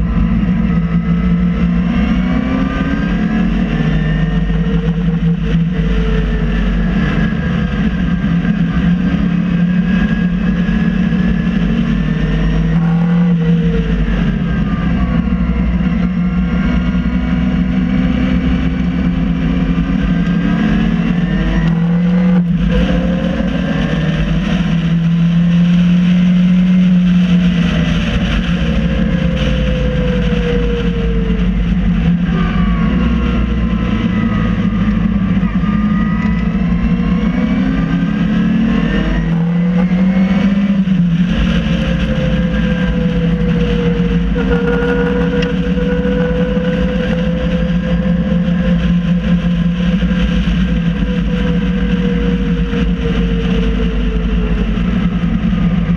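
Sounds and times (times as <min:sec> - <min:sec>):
race car engine at part throttle: 0:00.0 - 0:55.9
wind and road noise: 0:00.0 - 0:55.9.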